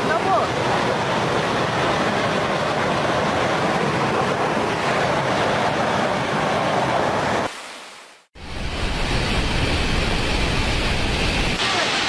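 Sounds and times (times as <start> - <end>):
water rushing through dam: 0.0 - 12.0.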